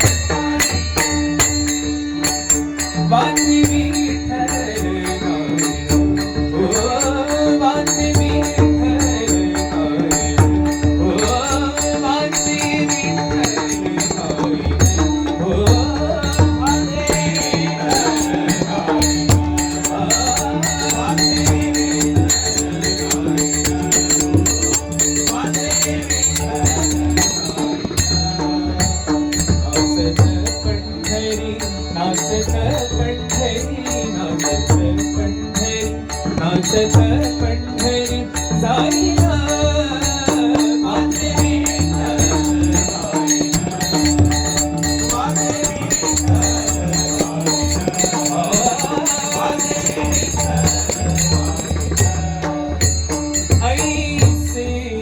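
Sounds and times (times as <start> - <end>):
jingling percussion: 0.0 - 55.0.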